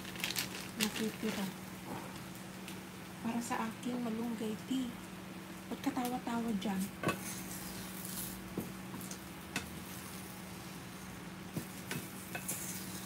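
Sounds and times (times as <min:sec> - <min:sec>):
egg frying in a pan: 0:00.0 - 0:13.0
steady low hum: 0:00.0 - 0:13.0.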